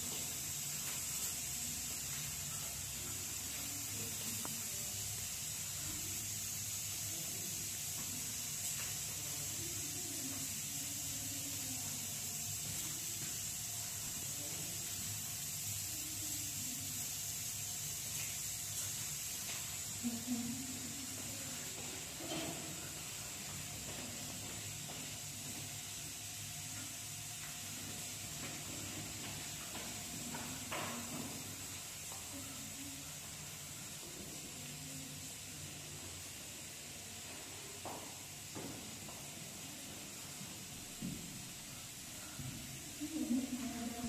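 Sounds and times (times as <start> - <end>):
faint distant voices: 0.0 - 44.0
rain and running water: 0.0 - 44.0.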